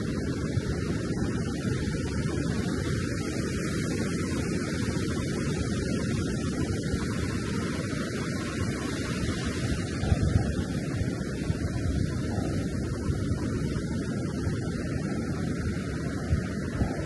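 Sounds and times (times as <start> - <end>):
ocean surf breaking on beach: 0.0 - 17.0
wind rumble on microphone: 0.0 - 17.0.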